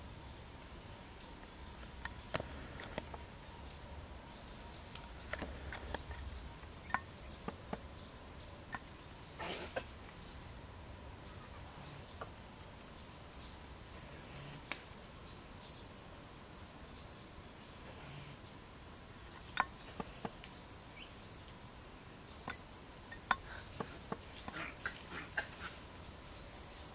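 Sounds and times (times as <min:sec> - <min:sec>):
insects droning: 0:00.0 - 0:26.9.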